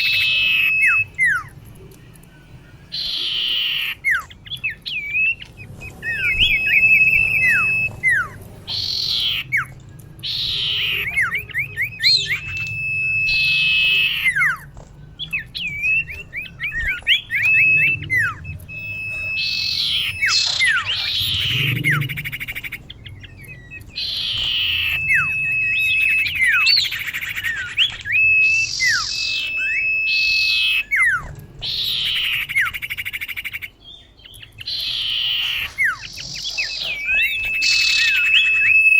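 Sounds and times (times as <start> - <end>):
bird calling whistles and chirps: 0.0 - 38.9.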